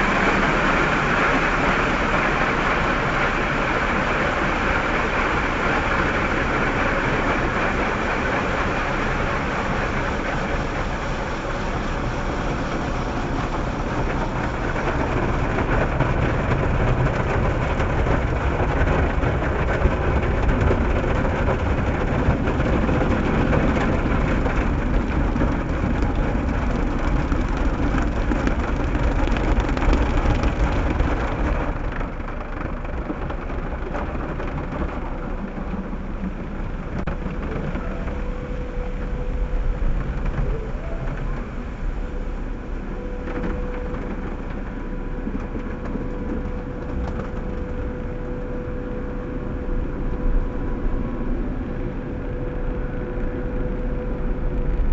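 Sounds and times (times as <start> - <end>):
car engine rumbling inside cabin: 0.0 - 54.9.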